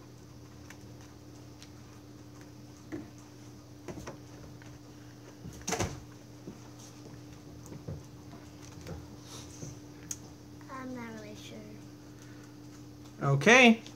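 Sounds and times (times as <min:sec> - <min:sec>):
low room hum: 0:00.0 - 0:13.9.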